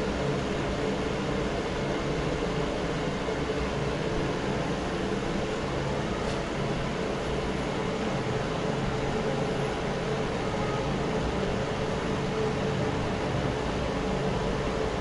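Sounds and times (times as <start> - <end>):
fan heater blowing air: 0.0 - 15.0.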